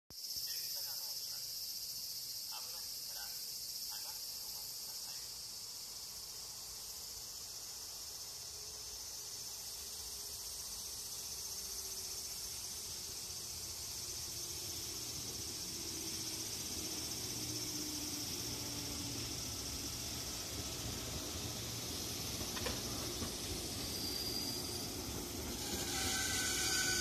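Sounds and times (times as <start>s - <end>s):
insects chorus: 0.1s - 27.0s
electric train rumble: 2.6s - 27.0s.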